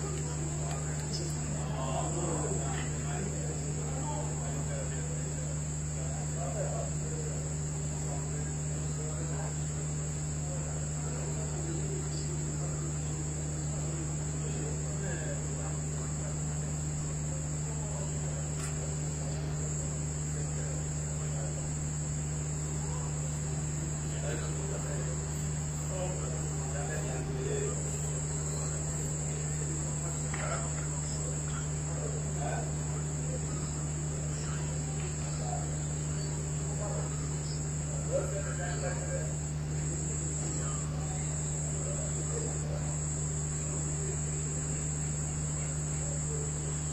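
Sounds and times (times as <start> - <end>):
crickets trilling: 0.0 - 46.9
faint distant voices: 0.0 - 46.9
low steady hum: 0.0 - 46.9.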